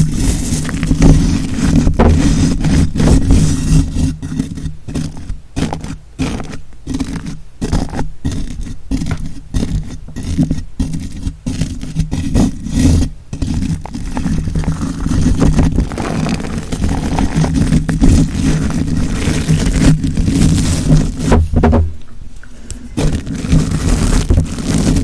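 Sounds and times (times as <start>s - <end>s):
scratching on microphone: 0.0s - 21.9s, 22.8s - 25.0s.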